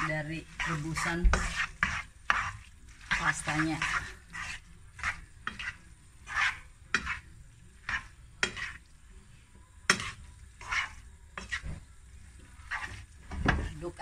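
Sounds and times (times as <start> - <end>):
tongs scraping and clicking on pan: 0.0 - 9.0, 9.8 - 13.9
pasta sizzling faintly: 0.0 - 14.0.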